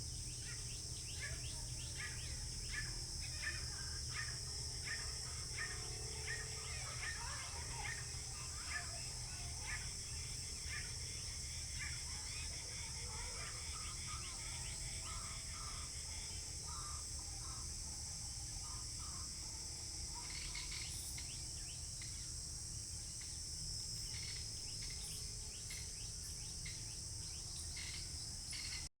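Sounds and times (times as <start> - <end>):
birds calling: 0.0 - 22.3, 24.0 - 28.9
insects droning: 0.0 - 28.9.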